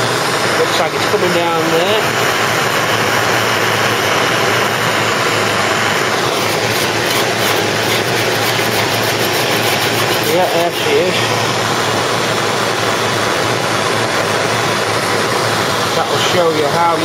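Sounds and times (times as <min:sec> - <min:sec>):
blowtorch flame hissing: 0:00.0 - 0:17.0.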